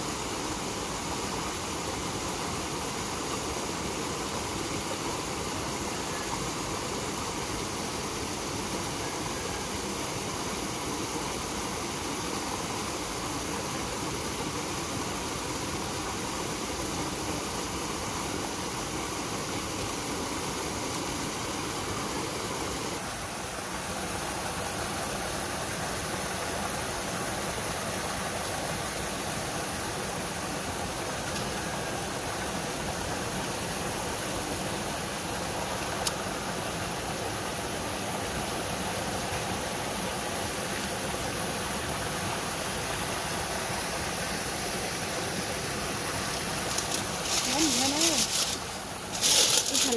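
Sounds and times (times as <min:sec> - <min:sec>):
small waterfall rushing: 0:00.0 - 0:49.9.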